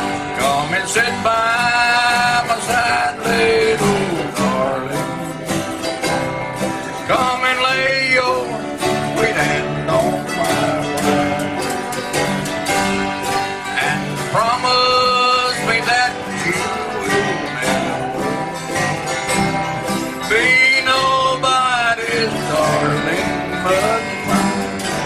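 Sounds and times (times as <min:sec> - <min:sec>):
man singing into a microphone: 0:00.0 - 0:05.6, 0:07.0 - 0:11.8, 0:13.6 - 0:18.7, 0:20.2 - 0:25.0
acoustic guitars strumming: 0:00.0 - 0:25.0.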